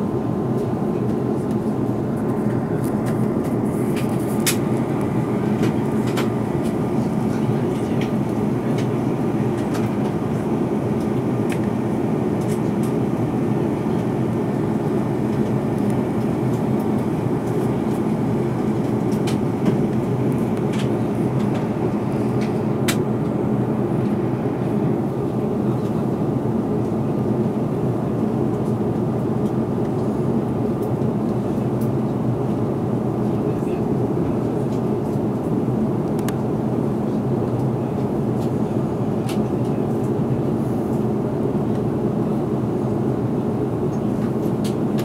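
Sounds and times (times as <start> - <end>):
airliner cabin engine rush: 0.0 - 45.0.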